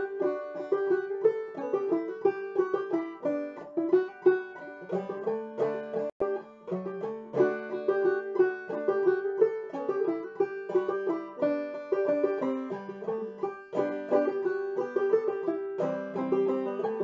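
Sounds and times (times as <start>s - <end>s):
banjo waltz melody: 0.0s - 17.0s.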